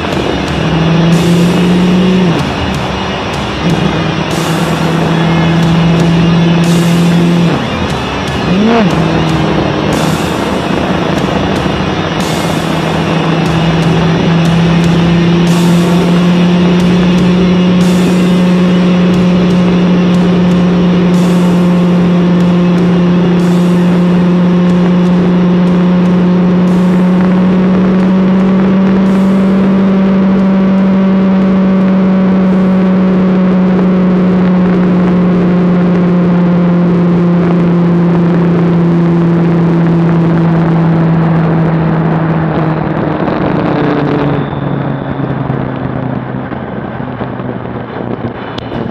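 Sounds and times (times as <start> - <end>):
motorcycle engine cruising: 0.0 - 48.9
wind rush: 0.0 - 48.9.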